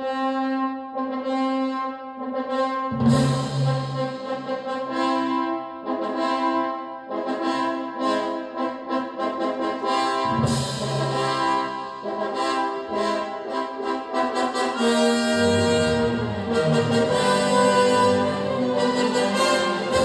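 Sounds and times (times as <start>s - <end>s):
brass fanfare notes: 0.0s - 20.0s
orchestral film music on loudspeakers: 0.0s - 20.0s.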